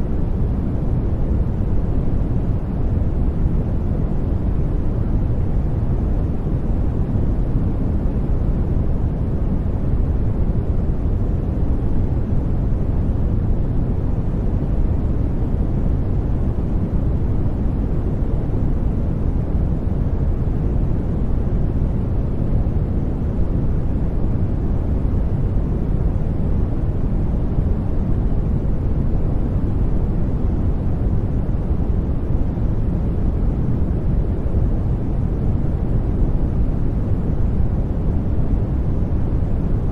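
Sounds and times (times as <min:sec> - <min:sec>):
low steady noise: 0:00.0 - 0:39.9.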